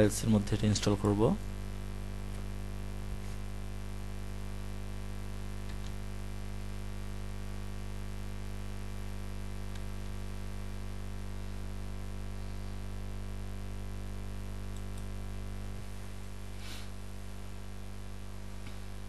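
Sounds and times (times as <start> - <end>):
low electrical hum with hiss: 0.0 - 19.0.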